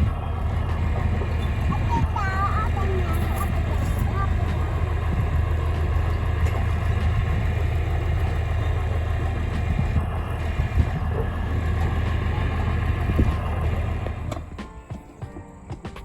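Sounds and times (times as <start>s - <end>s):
vehicle engine droning: 0.0s - 15.2s.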